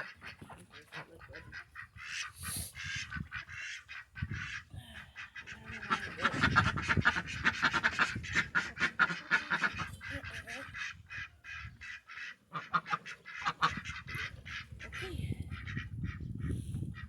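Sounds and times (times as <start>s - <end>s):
ducks quacking: 0.0s - 17.0s.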